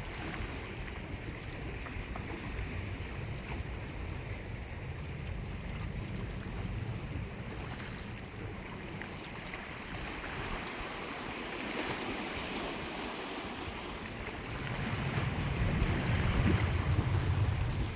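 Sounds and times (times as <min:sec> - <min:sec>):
sea surf washing ashore: 0:00.0 - 0:17.9
wind buffeting microphone: 0:00.0 - 0:17.9.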